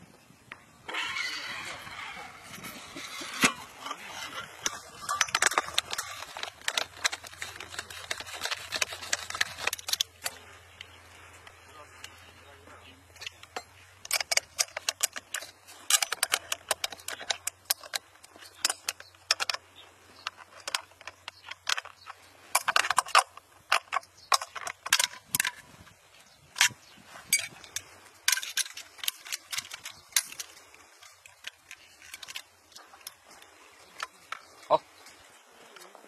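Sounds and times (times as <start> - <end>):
sharp cracks and pops: 0.5 - 10.9, 13.1 - 25.9, 26.5 - 35.2.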